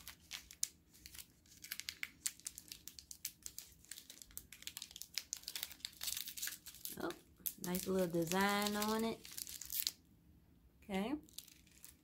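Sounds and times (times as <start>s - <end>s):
plastic wrapper crinkling: 0.0s - 10.0s, 11.2s - 12.0s.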